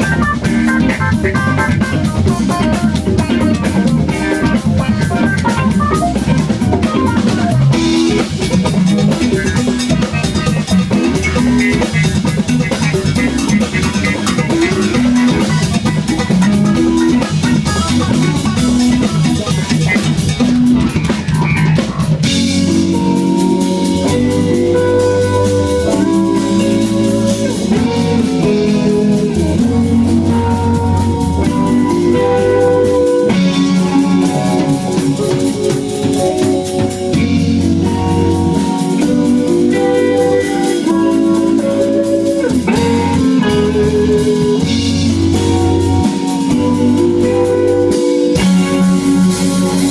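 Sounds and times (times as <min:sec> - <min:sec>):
funk rock band playing: 0:00.0 - 0:49.9.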